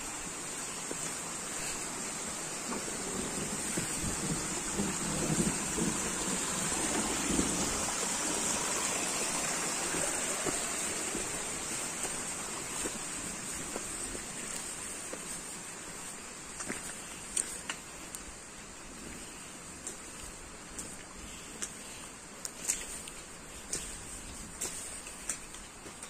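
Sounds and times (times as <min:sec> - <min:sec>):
constant high hiss: 0:00.0 - 0:26.0
rushing water or wind: 0:00.0 - 0:26.0.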